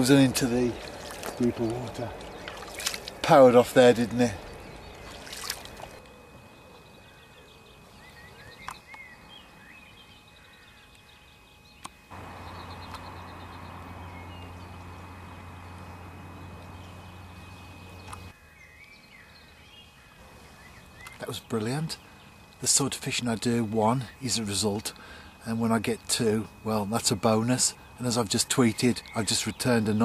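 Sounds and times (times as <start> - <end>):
low hum with hiss: 0.0 - 30.0
small birds chirping: 0.0 - 30.0.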